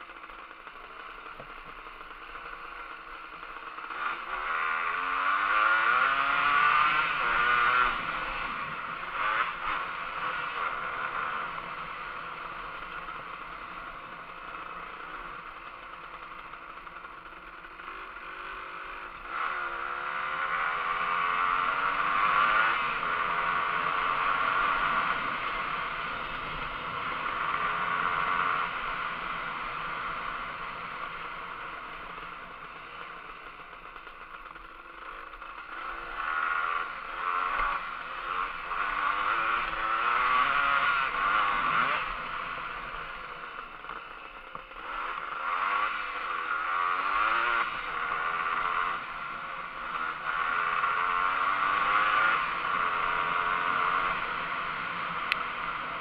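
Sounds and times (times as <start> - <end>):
two-stroke dirt bike engine: 0.0 - 56.0.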